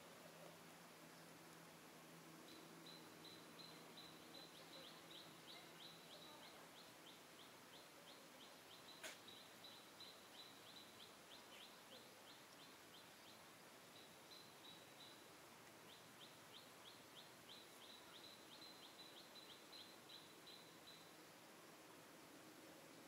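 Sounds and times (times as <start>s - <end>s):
small bird chirping: 2.4s - 21.2s.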